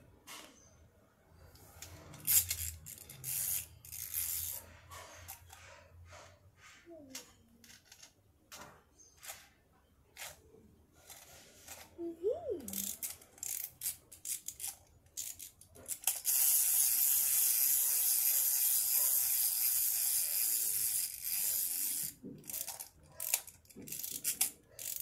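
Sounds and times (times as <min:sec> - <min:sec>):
plastic toys clicking on tile: 0:01.5 - 0:06.2, 0:07.0 - 0:12.0, 0:12.6 - 0:25.0.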